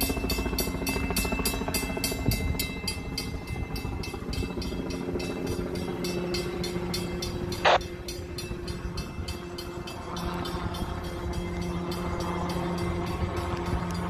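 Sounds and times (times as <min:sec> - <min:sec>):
fire truck engine drone: 0:00.0 - 0:14.0.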